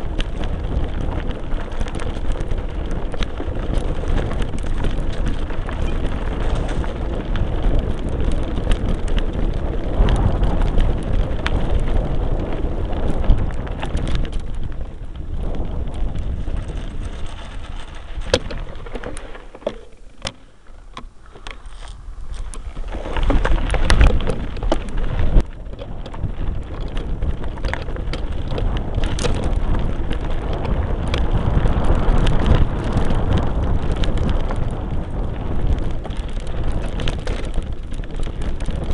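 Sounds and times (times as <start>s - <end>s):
bike rattling: 0.0s - 38.9s
tyres crunching over stones: 0.0s - 38.9s
wind buffeting microphone: 0.0s - 38.9s.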